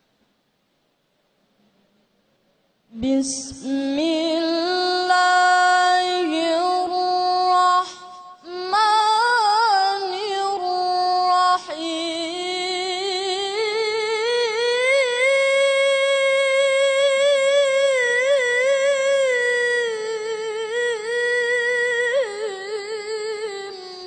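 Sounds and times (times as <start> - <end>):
boy chanting into a microphone: 2.9 - 24.0.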